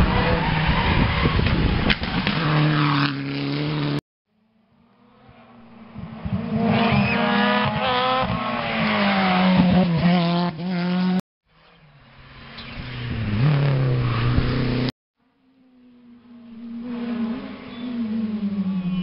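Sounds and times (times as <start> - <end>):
rally car revving and passing: 0.0 - 4.0, 4.8 - 14.9, 15.8 - 19.0.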